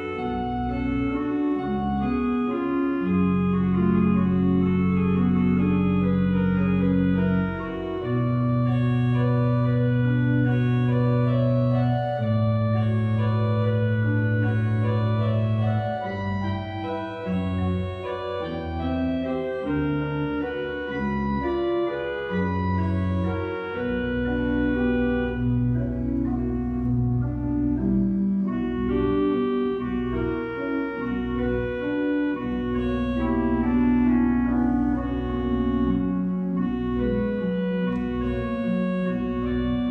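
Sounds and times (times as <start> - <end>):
pipe organ chords: 0.0 - 39.9.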